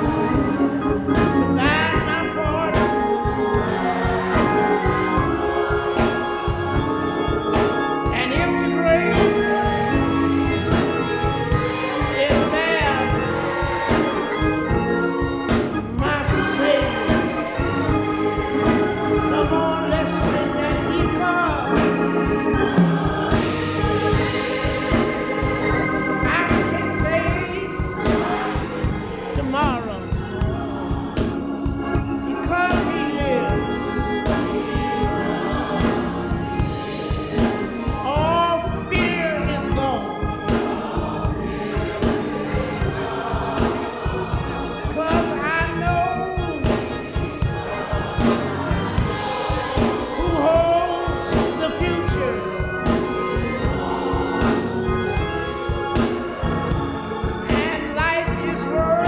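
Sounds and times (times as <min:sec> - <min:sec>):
choir singing gospel: 0:00.0 - 0:59.0
instrumental accompaniment with beat: 0:00.0 - 0:59.0.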